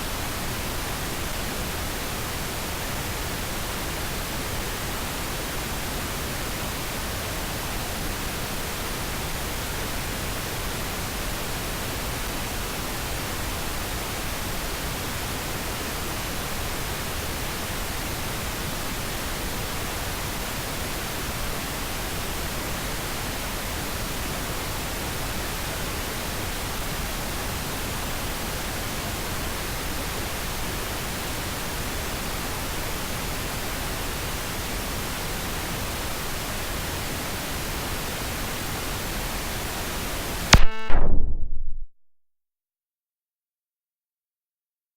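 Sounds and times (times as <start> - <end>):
pink noise hiss: 0.0 - 41.0.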